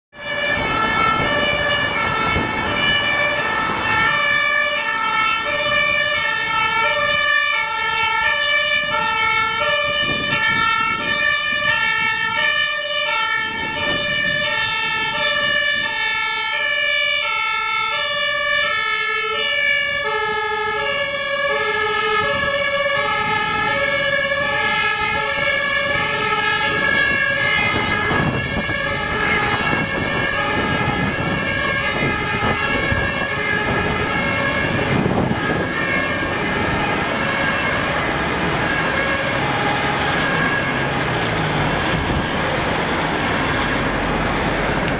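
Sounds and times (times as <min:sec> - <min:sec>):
traffic noise: 0:00.1 - 0:44.9
two-tone emergency siren: 0:00.1 - 0:44.9
truck engine: 0:00.2 - 0:44.9.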